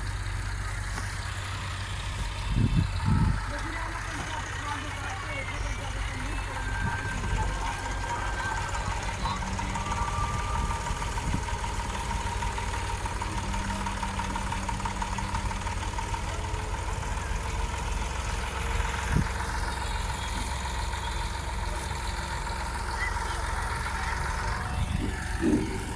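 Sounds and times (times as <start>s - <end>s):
engine running steadily: 0.0s - 25.9s.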